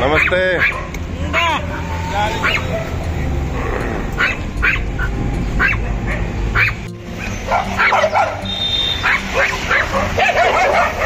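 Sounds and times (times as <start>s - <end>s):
dogs barking: 0.0s - 1.6s, 2.3s - 11.0s.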